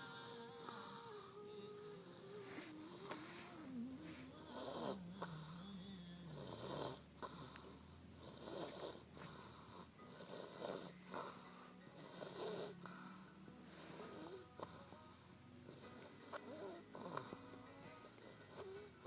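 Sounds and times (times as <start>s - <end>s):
person snoring: 0.0s - 19.0s.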